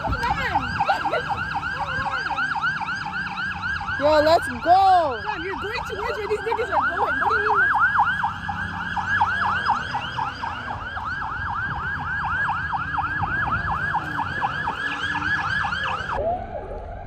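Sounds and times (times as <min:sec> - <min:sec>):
police siren yelping: 0:00.0 - 0:16.9
low vehicle rumble: 0:00.0 - 0:17.0.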